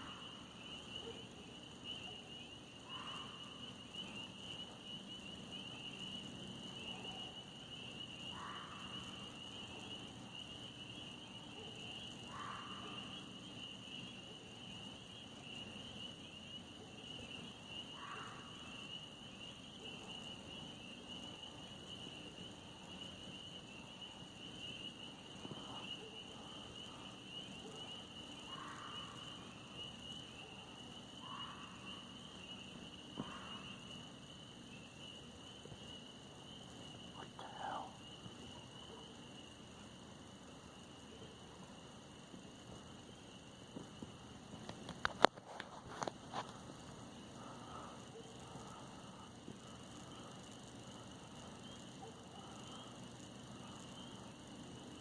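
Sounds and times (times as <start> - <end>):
night insect chorus: 0.0 - 55.0.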